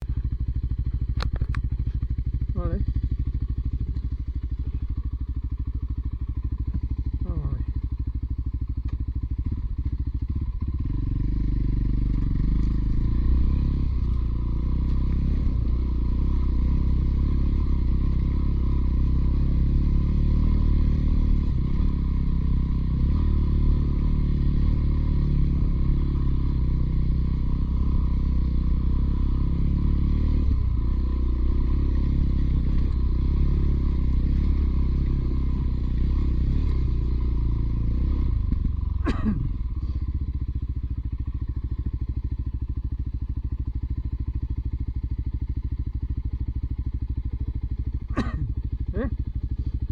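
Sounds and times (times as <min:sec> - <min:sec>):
motorcycle engine droning: 0:00.0 - 0:49.9.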